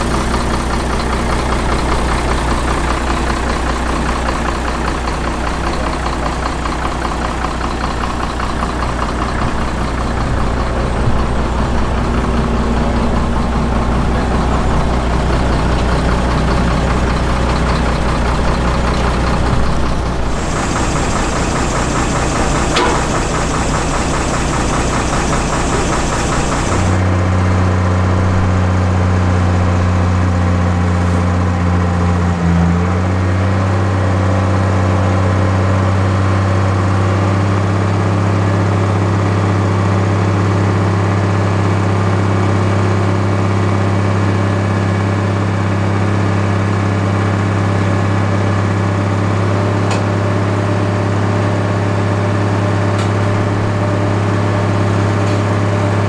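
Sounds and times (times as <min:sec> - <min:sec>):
lorry engine idling: 0:00.0 - 0:32.4, 0:35.2 - 0:56.0.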